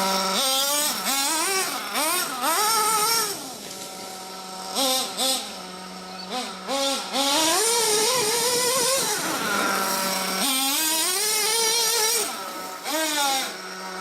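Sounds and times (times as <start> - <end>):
model truck nitro engine revving: 0.0 - 14.0.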